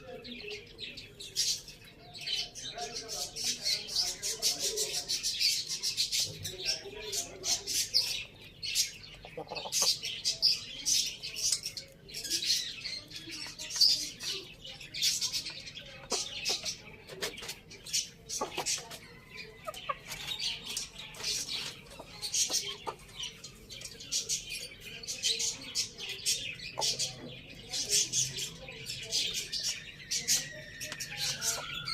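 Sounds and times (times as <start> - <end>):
soft bird calls: 0.0 - 31.9
chickens pecking and scratching: 0.1 - 31.9.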